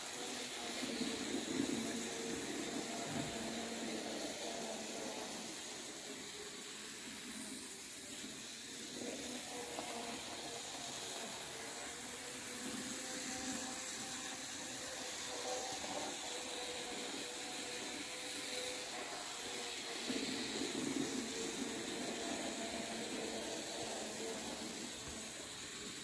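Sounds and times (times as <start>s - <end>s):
constant hiss: 0.0s - 26.0s
model train motor whine: 0.0s - 26.0s.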